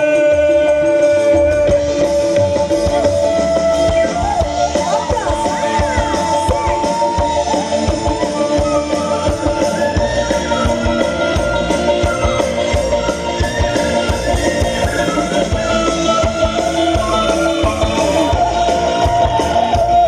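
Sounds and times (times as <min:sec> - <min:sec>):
live band over loud pa: 0:00.0 - 0:20.0.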